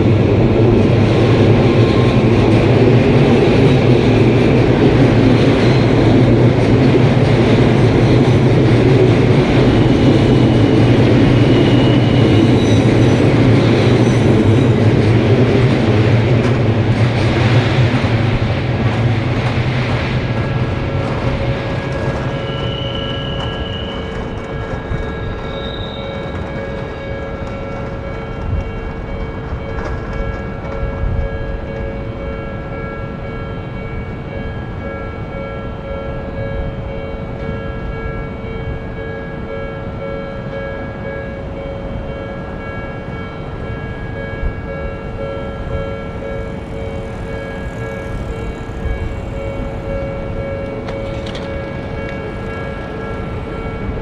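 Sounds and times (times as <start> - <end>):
train running past on rails: 0.0 - 54.0
level-crossing alarm bell: 1.3 - 54.0.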